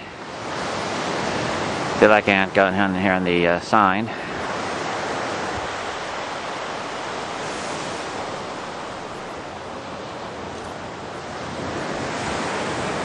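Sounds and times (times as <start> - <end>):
ocean surf washing ashore: 0.0 - 13.0.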